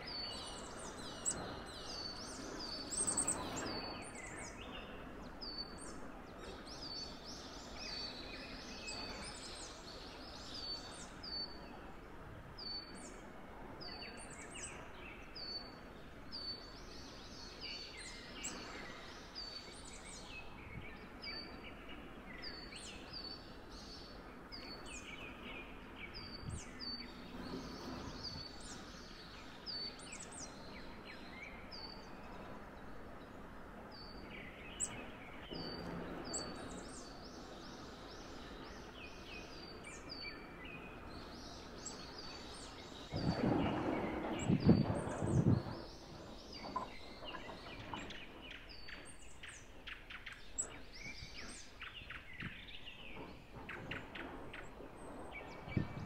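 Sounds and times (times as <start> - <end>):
small songbirds chirping: 0.0 - 56.0
steady background hiss: 0.0 - 56.0.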